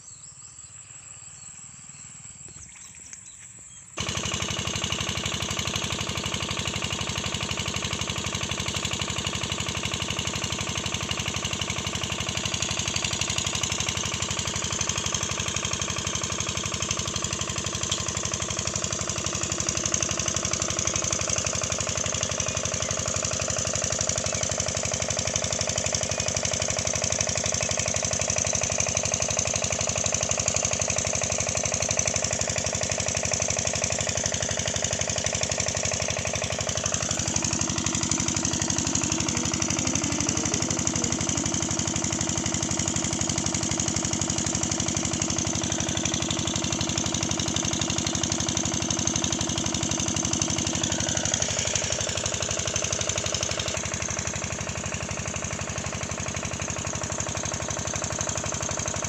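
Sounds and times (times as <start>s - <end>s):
engine running with knocking beat: 3.4s - 59.0s.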